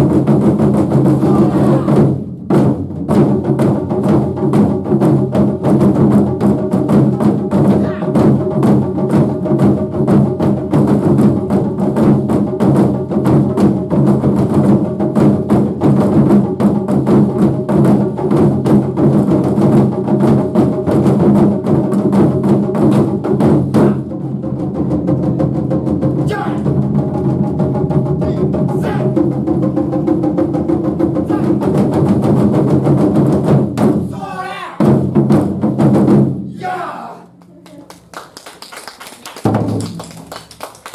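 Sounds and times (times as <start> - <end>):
taiko drums playing: 0.0 - 37.4, 39.4 - 40.9.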